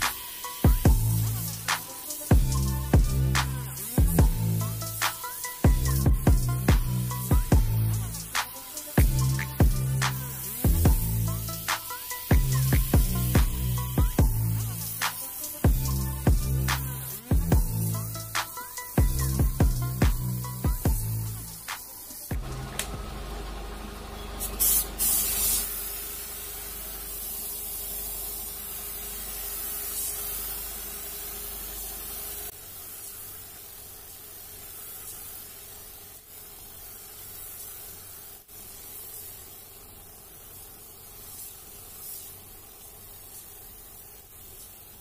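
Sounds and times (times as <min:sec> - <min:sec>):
spray gun hissing: 0:00.0 - 0:22.8, 0:24.3 - 0:45.0.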